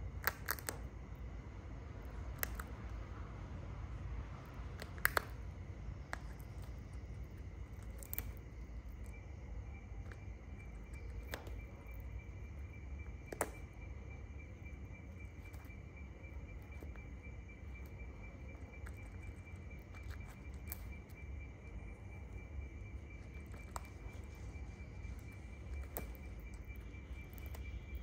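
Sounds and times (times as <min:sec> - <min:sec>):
continuous high trill: 0:00.0 - 0:28.0.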